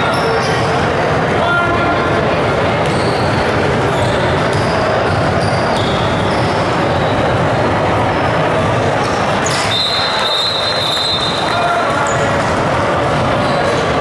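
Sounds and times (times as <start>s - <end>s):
loud background din: 0.0s - 14.0s.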